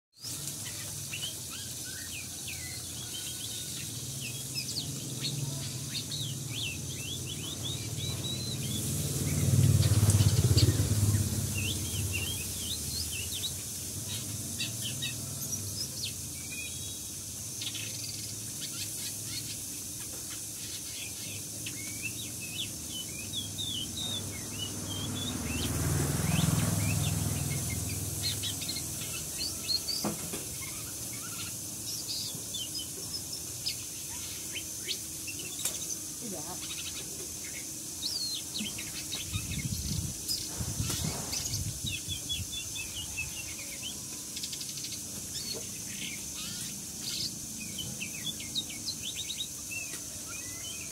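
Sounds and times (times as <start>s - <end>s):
small birds chirping: 0.1s - 50.9s.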